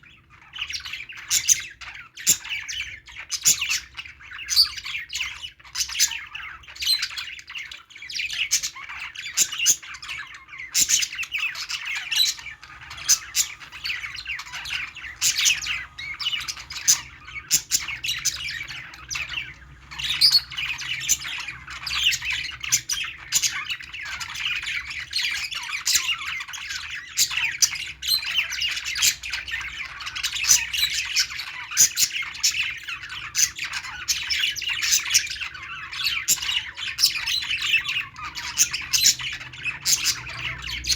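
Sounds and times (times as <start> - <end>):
parrots chirping and squawking: 0.0 - 40.9.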